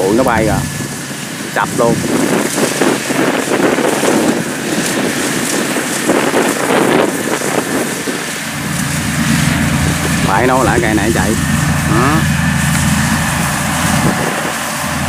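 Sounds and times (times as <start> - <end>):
combine harvester engine: 0.0 - 15.0
wind buffeting microphone: 0.0 - 15.0.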